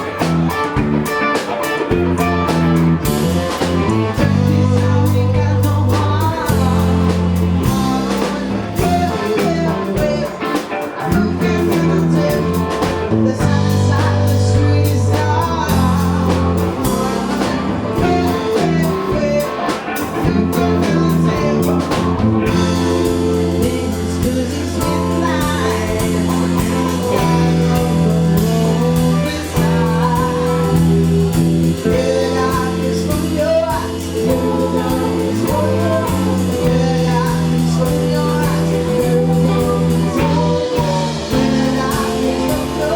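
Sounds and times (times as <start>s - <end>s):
band playing blues-rock: 0.0s - 42.9s
person singing: 0.0s - 42.9s.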